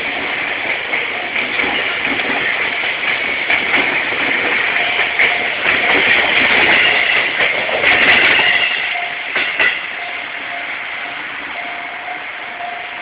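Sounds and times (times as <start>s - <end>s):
wheels clacking over rail joint: 0.0s - 10.7s
train wheels rushing on rail: 0.0s - 13.0s.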